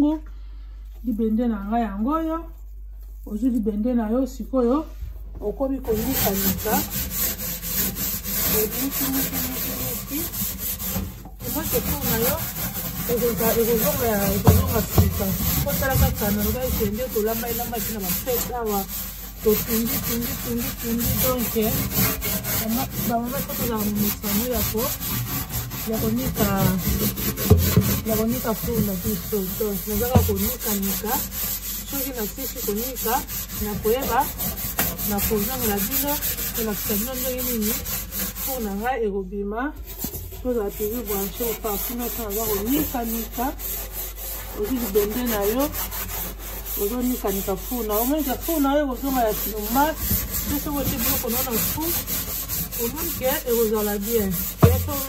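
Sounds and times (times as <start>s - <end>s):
scouring pad scrubbing metal: 5.9s - 38.9s, 39.8s - 55.0s.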